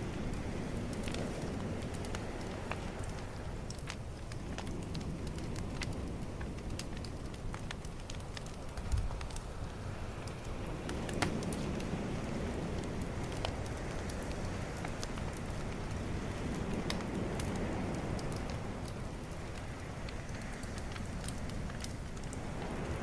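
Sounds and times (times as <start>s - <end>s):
calm ocean waves: 0.0s - 8.8s, 9.4s - 23.0s
bonfire crackling and popping: 0.0s - 23.0s.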